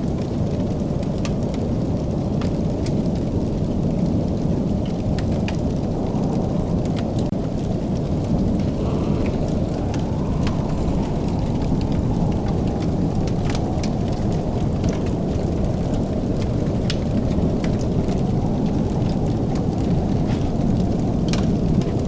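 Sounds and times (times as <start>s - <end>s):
wood fire crackling: 0.0s - 22.0s
deep rumble: 4.1s - 22.0s.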